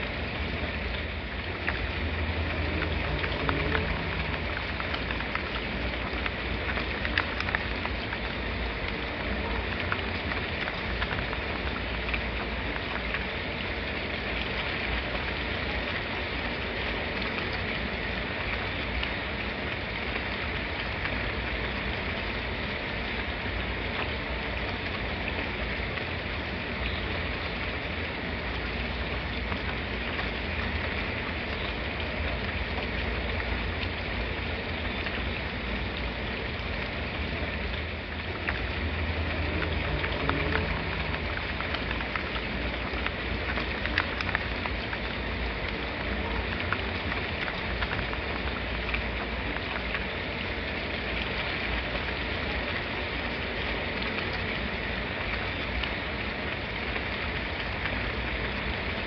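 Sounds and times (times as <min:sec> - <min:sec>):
sharp raindrop ticks: 0:00.0 - 0:59.0
steady rain falling: 0:00.0 - 0:59.0.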